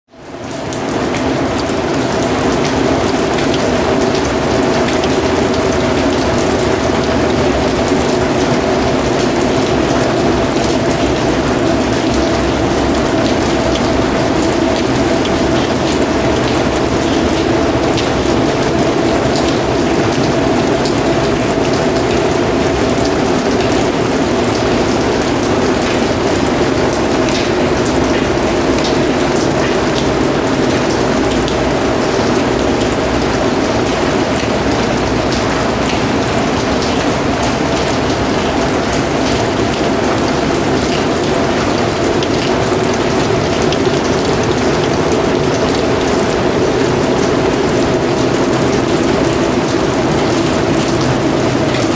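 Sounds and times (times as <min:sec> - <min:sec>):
heavy rain falling: 0:00.1 - 0:51.9.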